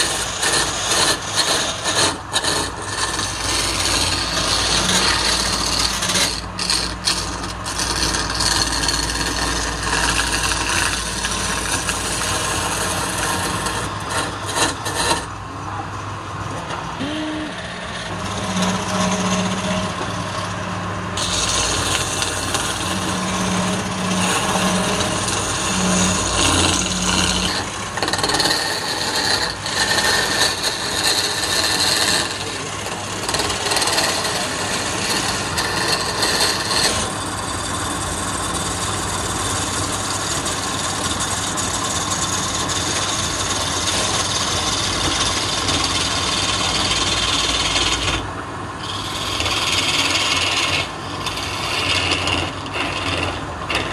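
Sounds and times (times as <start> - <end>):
chisel rasping on spinning wood: 0.0 - 16.0, 16.6 - 53.9
lathe motor hum: 0.0 - 53.9.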